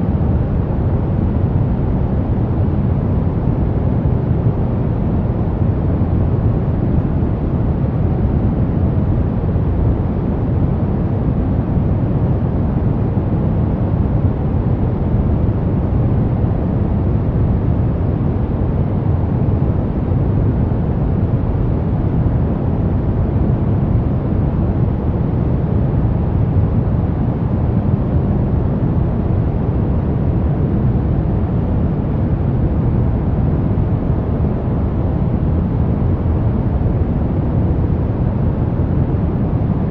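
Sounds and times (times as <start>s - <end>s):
deep brown noise hiss: 0.0s - 39.9s.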